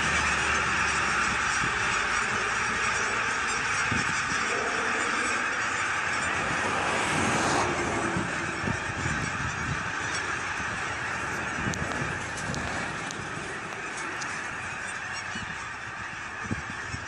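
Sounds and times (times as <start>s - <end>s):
flock of geese honking: 0.0s - 17.0s.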